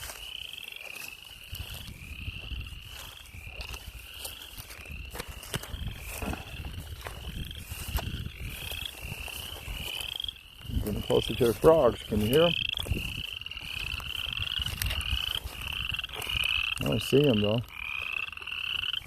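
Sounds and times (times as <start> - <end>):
frogs trilling: 0.0 - 19.0.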